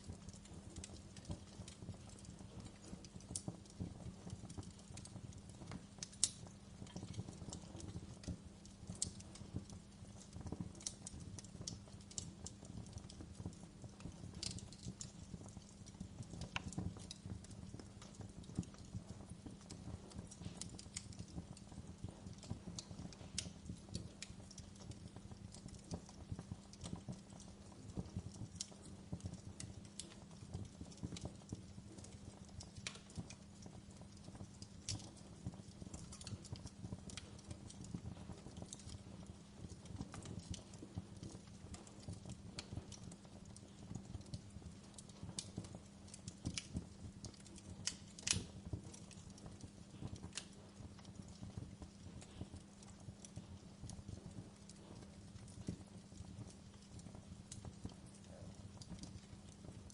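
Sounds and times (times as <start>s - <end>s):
flames rumbling: 0.0s - 59.9s
wood fire crackling: 0.0s - 59.9s.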